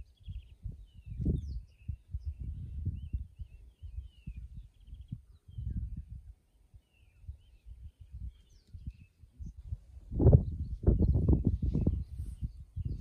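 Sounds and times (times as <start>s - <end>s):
birds chirping and calling: 0.0s - 13.0s
wind buffeting microphone: 0.0s - 13.0s.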